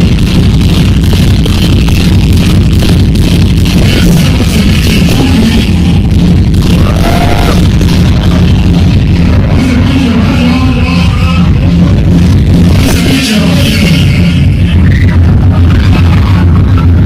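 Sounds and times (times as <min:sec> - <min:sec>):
loud music with heavy bass: 0:00.0 - 0:17.0.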